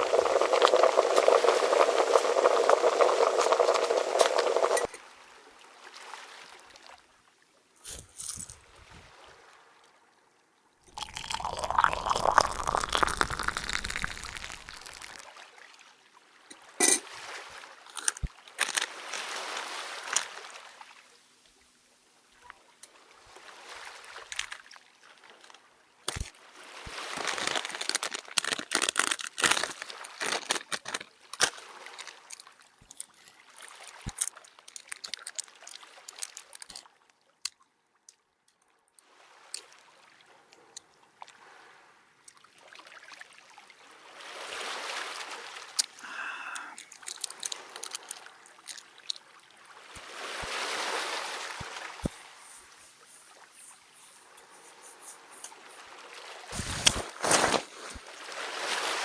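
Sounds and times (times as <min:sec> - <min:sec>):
water splashing and sloshing: 0:00.0 - 0:07.2, 0:07.8 - 0:10.1, 0:10.9 - 0:21.1, 0:22.8 - 0:46.0, 0:46.8 - 0:59.0.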